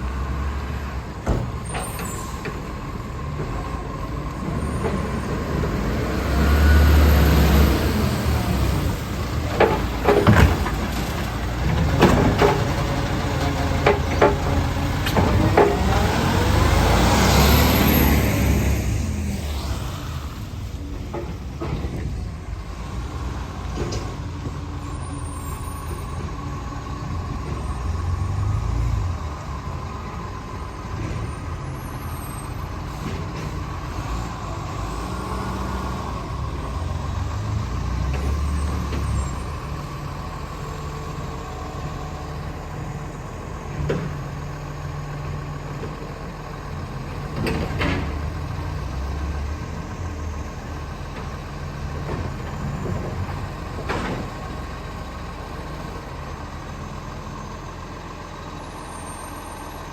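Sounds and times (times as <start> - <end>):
garbage truck engine revving: 2.3 - 25.3, 26.2 - 57.1.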